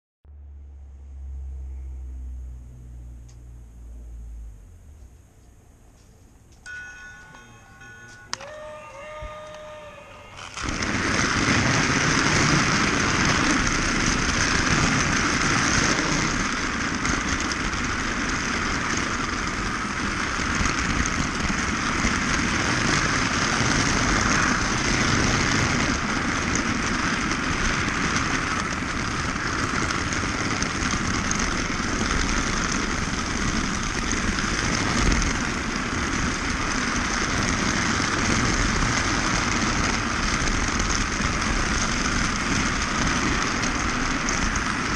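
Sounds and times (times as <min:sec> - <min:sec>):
toy train bump: 0:06.6 - 0:44.9
toy train motor whirring: 0:07.4 - 0:44.9.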